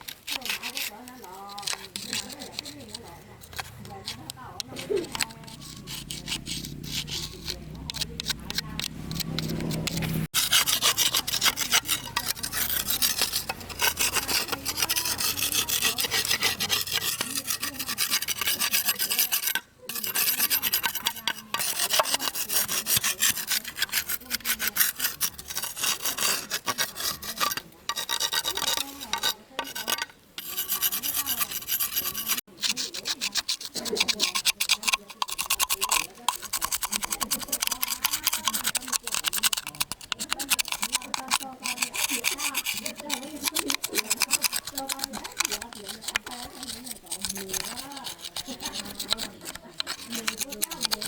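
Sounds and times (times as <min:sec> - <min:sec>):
abrasive rubbing on engine part: 0:00.0 - 0:51.0.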